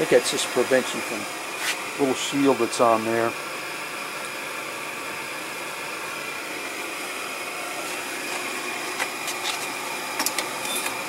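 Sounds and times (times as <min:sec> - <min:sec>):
blower fan whirring: 0:00.0 - 0:11.0.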